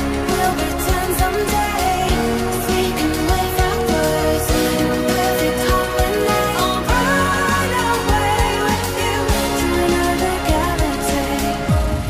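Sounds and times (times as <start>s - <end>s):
melody over drum beat: 0.0s - 12.0s.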